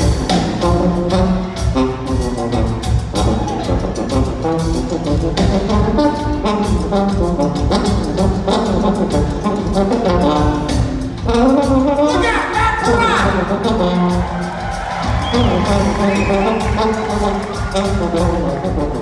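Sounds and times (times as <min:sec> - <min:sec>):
bass guitar: 0:00.0 - 0:19.0
brass horn section: 0:00.0 - 0:19.0
drums with steady beat: 0:00.0 - 0:19.0.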